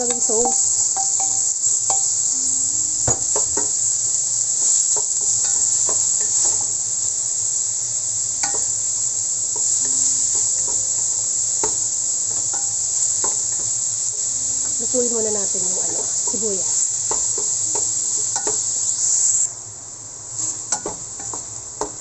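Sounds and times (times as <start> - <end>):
onion and garlic sizzling in oil: 0.0 - 22.0.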